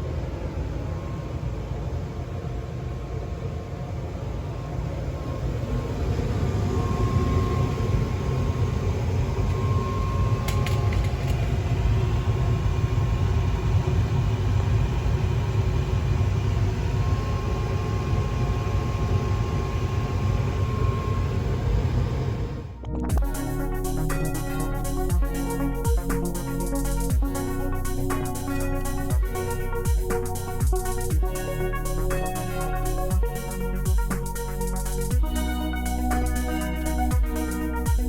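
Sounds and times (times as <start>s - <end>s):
furnace burner and blower rumble: 0.0s - 38.0s.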